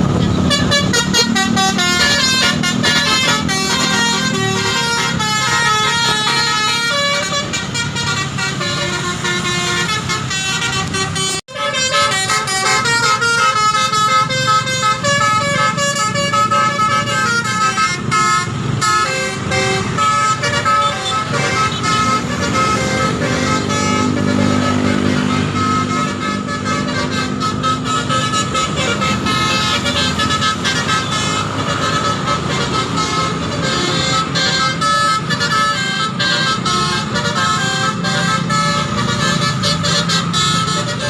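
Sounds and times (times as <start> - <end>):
bus engine running: 0.0 - 41.0
bus horn melodies: 0.0 - 41.0.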